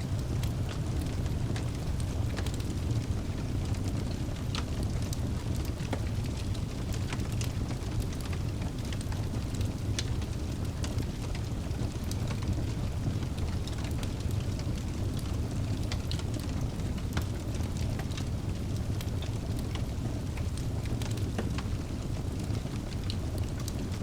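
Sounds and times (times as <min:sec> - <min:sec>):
burning logs crackling and popping: 0:00.0 - 0:24.0
fire rumbling in fireplace: 0:00.0 - 0:24.0.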